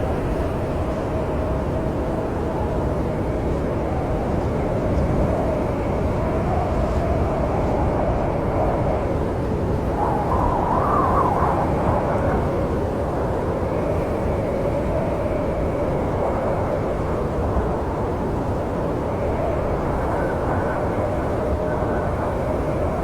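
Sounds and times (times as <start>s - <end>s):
howling snowstorm wind: 0.0s - 23.0s.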